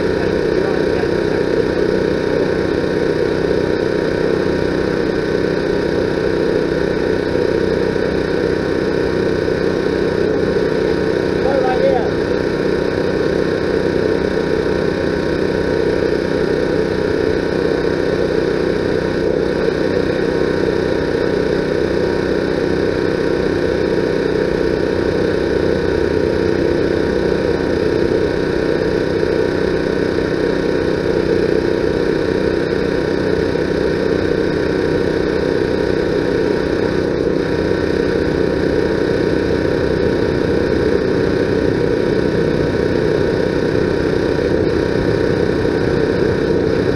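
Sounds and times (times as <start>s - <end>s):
steady mechanical drone: 0.0s - 46.9s.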